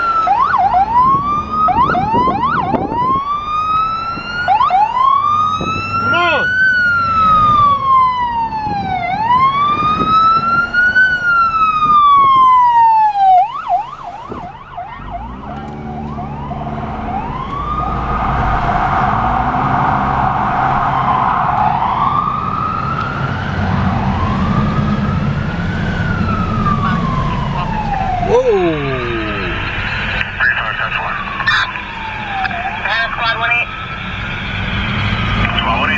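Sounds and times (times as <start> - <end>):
ambulance siren: 0.0 - 35.9
low rumble of traffic: 0.0 - 35.9.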